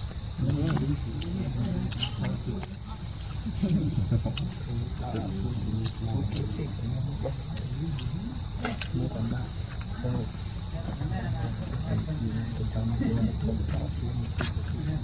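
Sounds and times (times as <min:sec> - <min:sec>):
insects droning: 0:00.0 - 0:15.0
low background murmur: 0:00.0 - 0:15.0.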